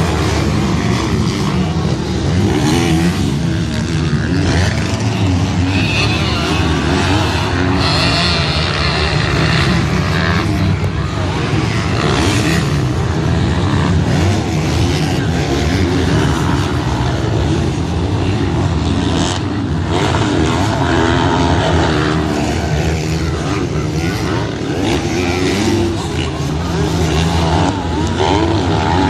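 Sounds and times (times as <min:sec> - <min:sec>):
motocross bikes revving: 0:00.0 - 0:29.0.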